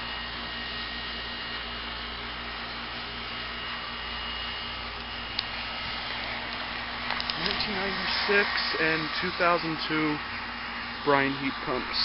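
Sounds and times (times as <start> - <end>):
compressor hum: 0.0 - 12.0
condenser fans rushing: 0.0 - 12.0.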